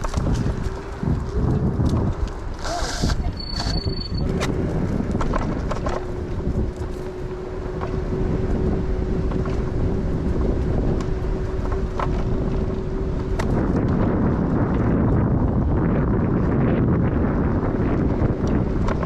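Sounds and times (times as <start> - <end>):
electric scooter hum: 0.0 - 19.0
wind buffeting microphone: 0.0 - 19.0.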